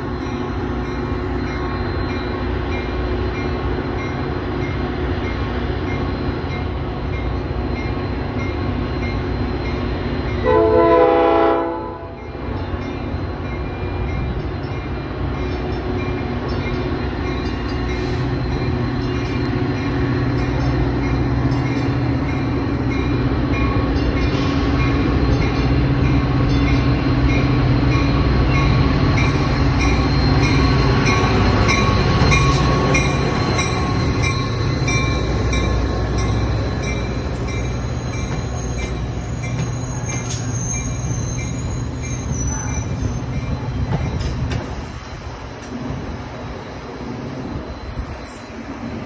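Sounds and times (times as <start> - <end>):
diesel locomotive engine hum: 0.0 - 49.0
train wheels on rails: 0.0 - 49.0.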